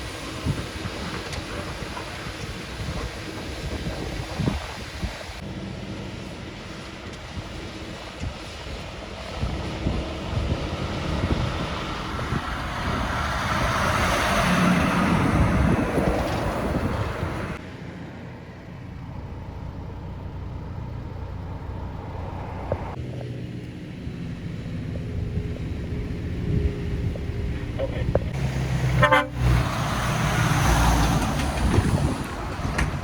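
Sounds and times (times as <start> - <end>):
low engine hum: 0.0 - 33.0
heavy truck passing: 5.4 - 33.0.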